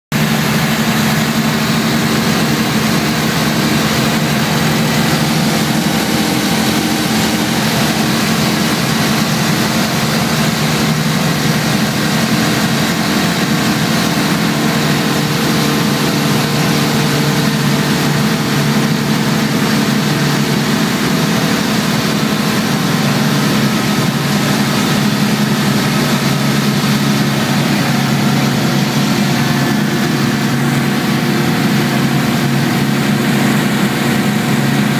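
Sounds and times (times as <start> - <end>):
rush of air noise: 0.1 - 34.9
aircraft engine and propeller droning: 0.2 - 34.9.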